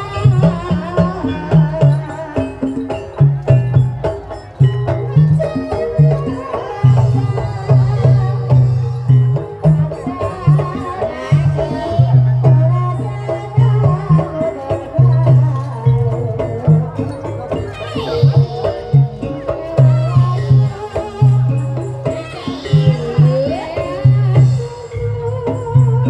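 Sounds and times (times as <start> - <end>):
drum strokes: 0.0 - 26.0.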